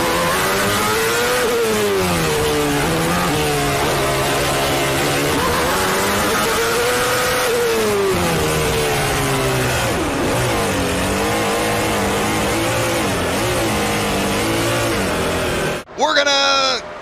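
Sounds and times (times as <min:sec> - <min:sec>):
race car engine: 0:00.0 - 0:17.0.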